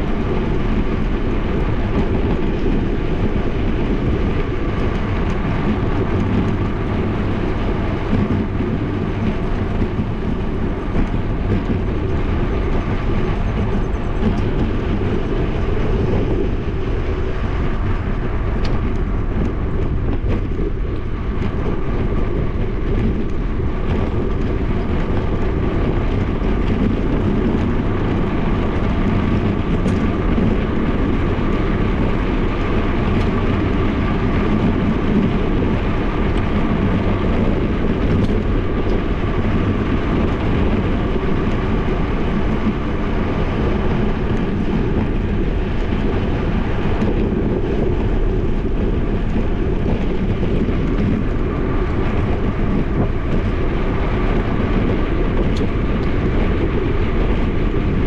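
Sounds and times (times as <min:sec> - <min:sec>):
tyre noise on asphalt: 0:00.0 - 0:58.0
wind buffeting microphone: 0:00.0 - 0:58.0.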